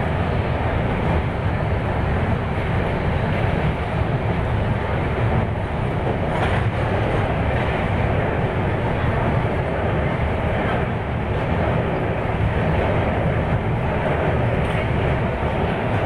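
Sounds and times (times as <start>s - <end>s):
rattling train coaches: 0.0s - 16.0s
train wheels rumbling on rails: 0.0s - 16.0s.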